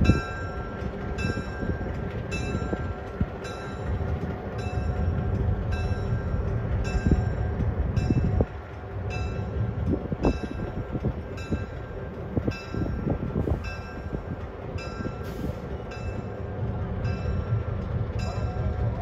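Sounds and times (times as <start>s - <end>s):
diesel locomotive engine rumble: 0.0s - 19.0s
locomotive bell ringing: 0.0s - 19.0s.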